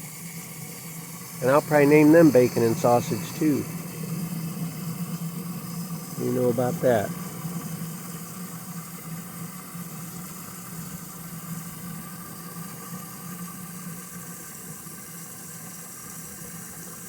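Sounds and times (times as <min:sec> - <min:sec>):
even hiss: 0:00.0 - 0:14.6
small motor humming: 0:00.0 - 0:17.0.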